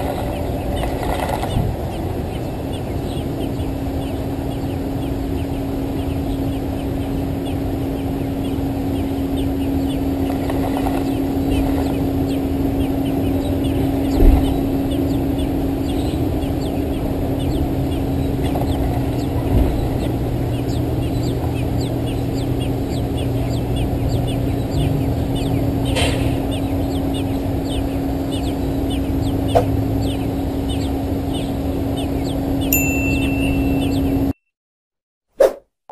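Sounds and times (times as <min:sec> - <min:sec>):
high bird chirps: 0:00.0 - 0:34.4
low hum and rumble: 0:00.0 - 0:34.4.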